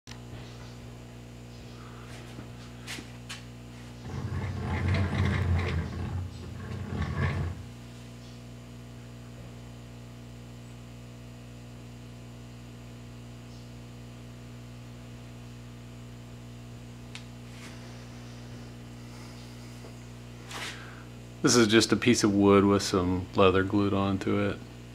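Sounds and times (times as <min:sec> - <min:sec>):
electrical mains hum: 0:00.1 - 0:24.9.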